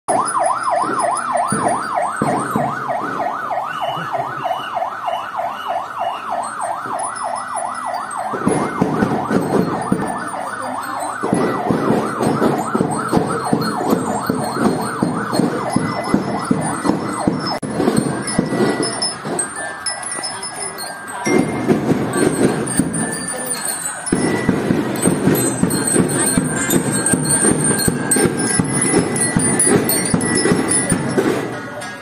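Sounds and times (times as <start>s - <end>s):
police siren yelping: 0.1s - 31.4s
rapid parade drumming: 0.1s - 32.0s.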